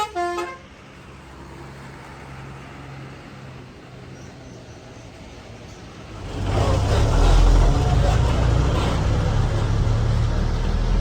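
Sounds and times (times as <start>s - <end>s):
bus engine rumbling: 0.0s - 1.3s, 3.2s - 11.0s.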